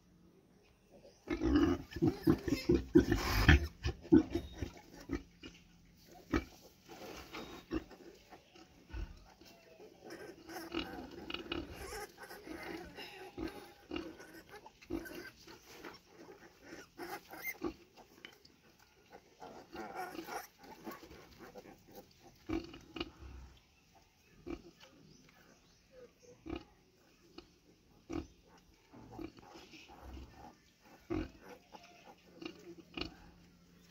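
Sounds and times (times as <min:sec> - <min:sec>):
pigs grunting and squeaking: 0:00.9 - 0:33.9.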